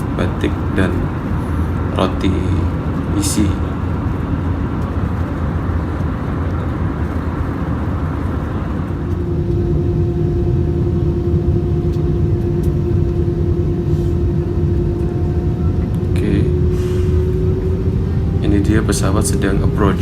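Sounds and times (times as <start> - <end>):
airliner cabin rumble: 0.0 - 20.0
steady humming tone: 0.0 - 20.0.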